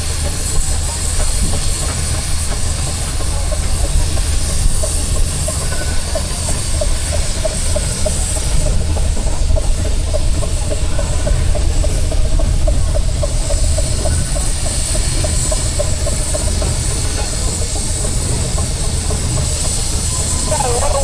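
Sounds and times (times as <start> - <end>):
low engine rumble: 0.0 - 21.0
soft exhaust beats: 0.0 - 21.0
steam hissing: 0.0 - 21.0.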